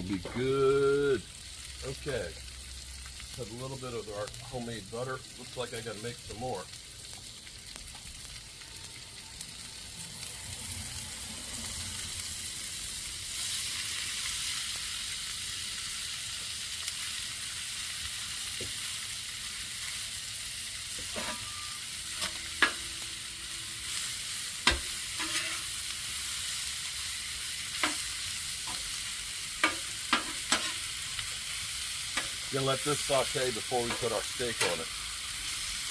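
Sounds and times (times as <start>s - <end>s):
vegetables sizzling in a pan: 0.0s - 35.9s.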